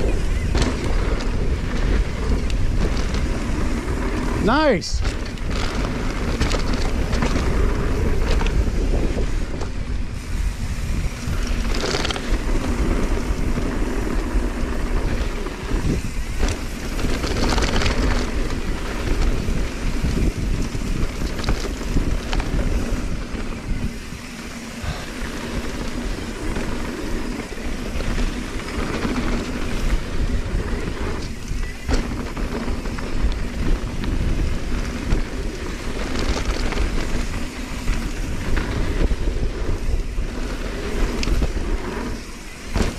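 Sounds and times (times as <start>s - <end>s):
bike clattering over bumps: 0.0s - 42.9s
bike tyres rolling on dirt: 0.0s - 42.9s
wind over microphone: 0.0s - 42.9s.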